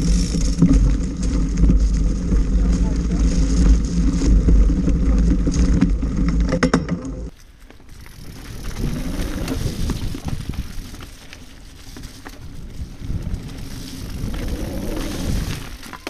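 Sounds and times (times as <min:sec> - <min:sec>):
rolling crunch of leaves: 0:00.0 - 0:06.5, 0:07.3 - 0:16.0
bike rattling: 0:00.0 - 0:16.0
bike tyres rumbling on dirt: 0:00.0 - 0:16.0.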